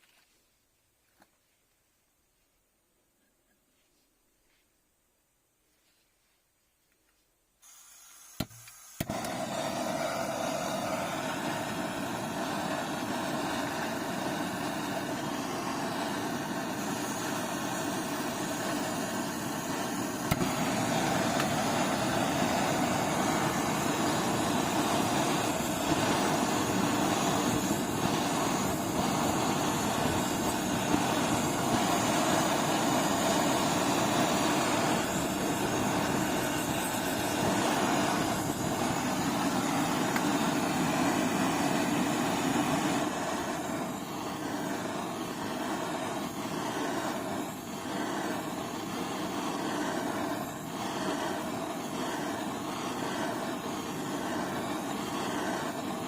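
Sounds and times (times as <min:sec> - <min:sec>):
machine-like rushing noise: 0:09.0 - 0:56.0.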